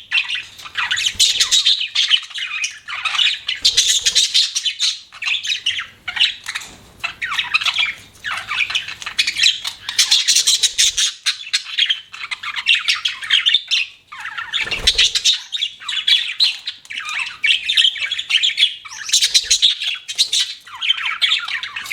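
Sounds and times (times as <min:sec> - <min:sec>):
budgerigars chattering and chirping: 0:00.0 - 0:21.9.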